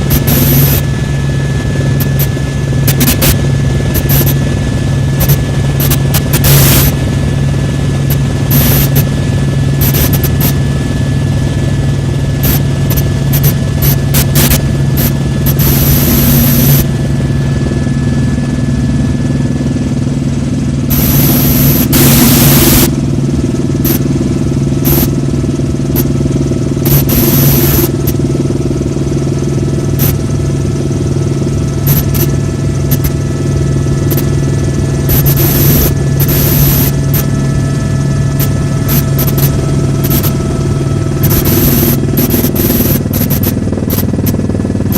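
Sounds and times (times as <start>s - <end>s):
helicopter rotor drone: 0.0s - 44.9s.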